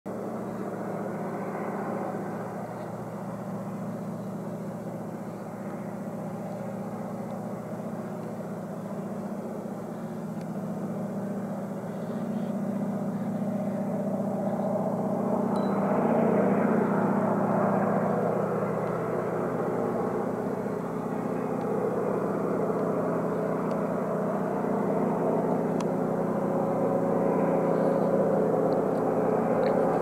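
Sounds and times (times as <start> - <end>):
distant diesel locomotive engine: 0.1 - 30.0.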